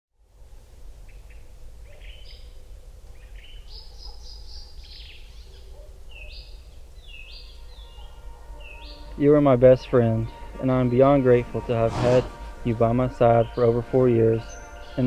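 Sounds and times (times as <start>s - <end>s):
birds chirping: 1.1s - 15.0s.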